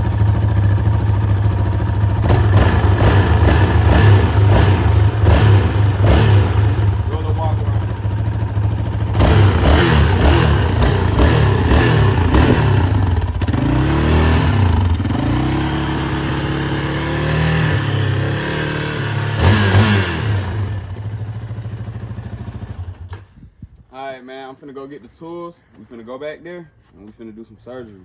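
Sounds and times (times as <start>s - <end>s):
quad engine revving: 0.0s - 23.1s.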